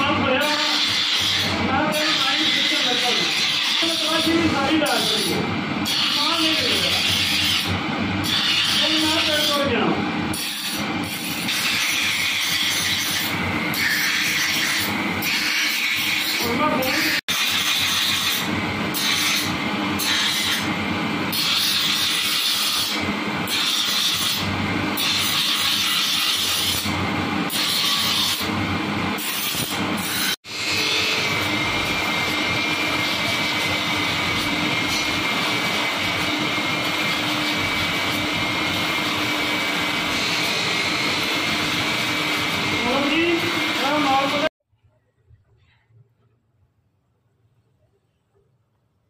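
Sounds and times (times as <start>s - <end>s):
knife grinding on grinding wheel: 0.0s - 44.4s
high grinding whine: 0.0s - 44.5s.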